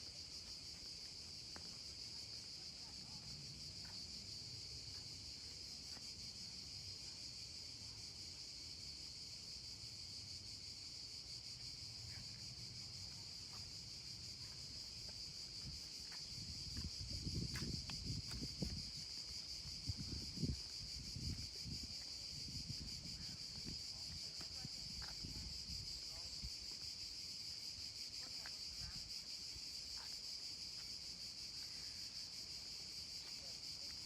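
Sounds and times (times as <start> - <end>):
insect chorus buzzing: 0.0 - 34.0.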